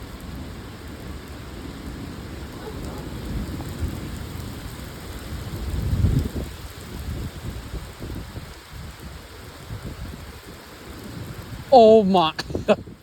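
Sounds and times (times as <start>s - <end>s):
low rumble of thunder: 0.0s - 11.7s
heavy rain pouring: 0.0s - 13.0s.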